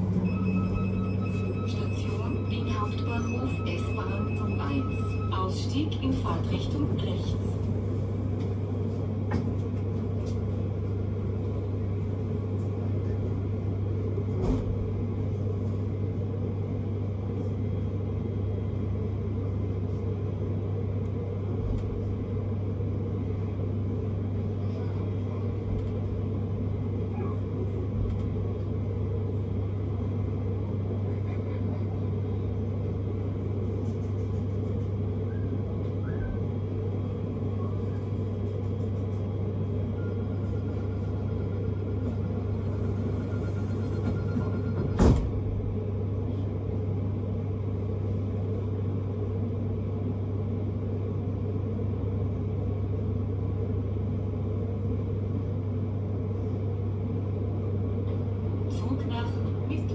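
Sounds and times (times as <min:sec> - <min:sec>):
train rumbling from inside: 0:00.0 - 0:59.9.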